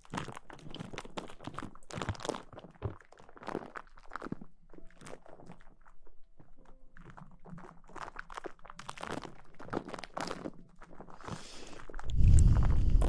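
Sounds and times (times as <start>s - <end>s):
soft crackling and crinkling: 0.0s - 13.0s.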